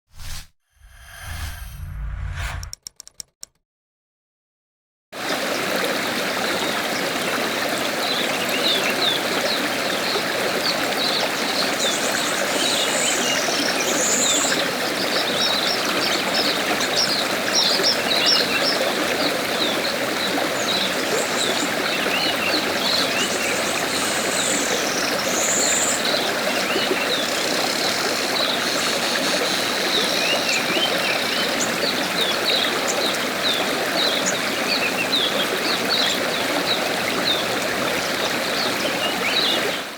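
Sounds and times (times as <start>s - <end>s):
river water flowing: 5.2s - 39.9s.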